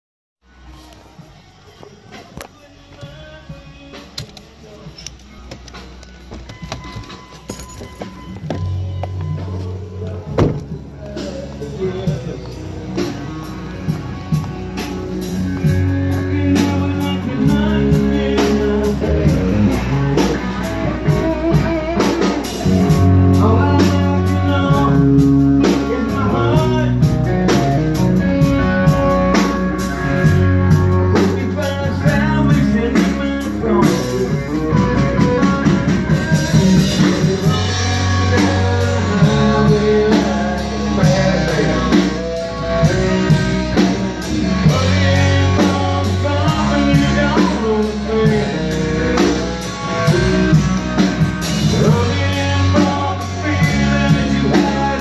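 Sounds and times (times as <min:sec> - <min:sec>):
bass line: 0:00.4 - 0:55.0
guitar: 0:00.4 - 0:55.0
drum kit beat: 0:03.0 - 0:55.0.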